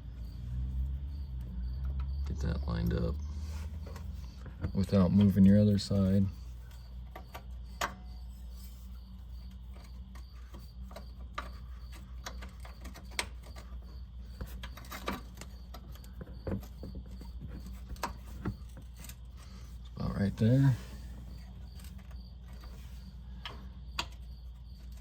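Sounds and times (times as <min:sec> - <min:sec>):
steady low background hum: 0:00.0 - 0:25.0.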